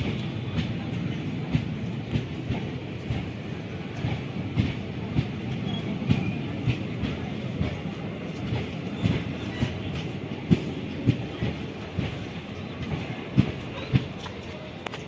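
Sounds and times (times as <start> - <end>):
train wheels clattering over rail joints: 0.0 - 15.0.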